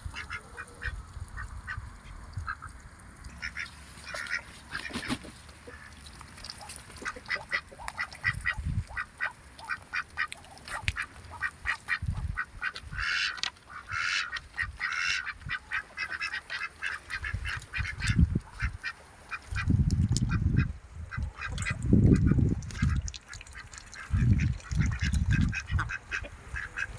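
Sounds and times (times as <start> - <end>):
ducks quacking: 0.0 - 26.9.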